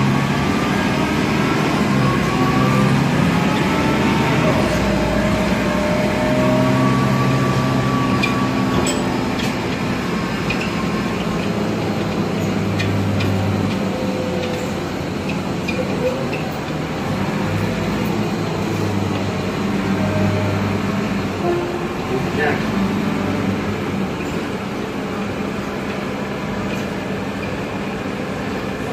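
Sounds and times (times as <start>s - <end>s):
bus engine drone: 0.0s - 28.9s.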